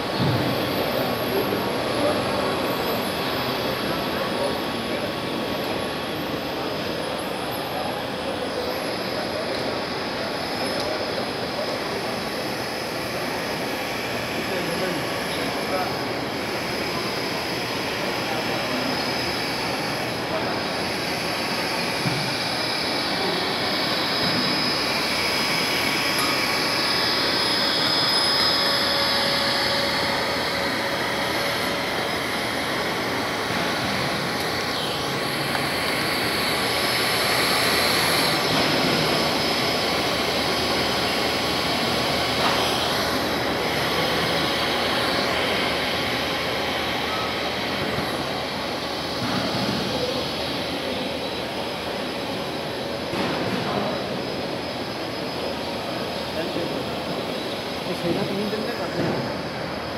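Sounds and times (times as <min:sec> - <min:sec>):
electric blower drone: 0:00.0 - 0:59.9.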